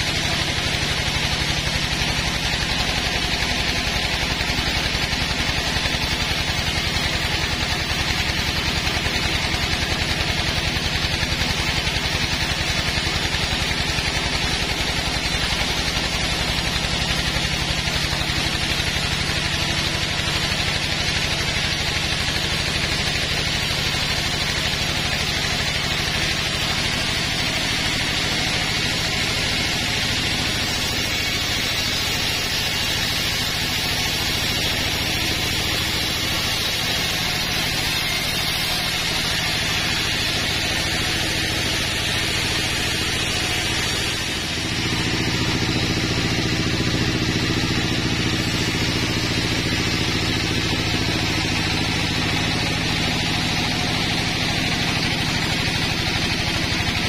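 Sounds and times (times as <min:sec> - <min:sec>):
band saw cutting log: 0:00.0 - 0:57.0
sawmill machine drone: 0:00.0 - 0:57.0.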